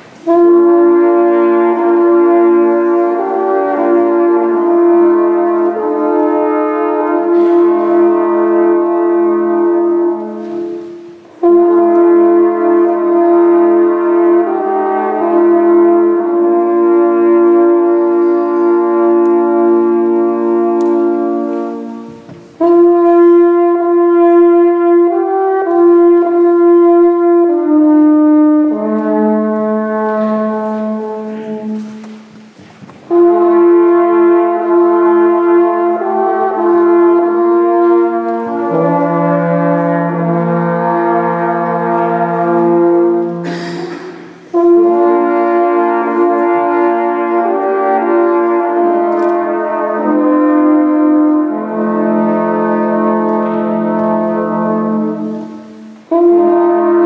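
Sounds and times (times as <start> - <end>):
alphorns playing in harmony: 0.0 - 43.5, 44.4 - 57.0.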